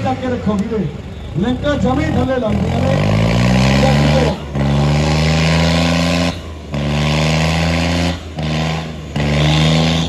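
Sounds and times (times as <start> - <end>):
tractor engine at high revs: 1.5 - 10.0.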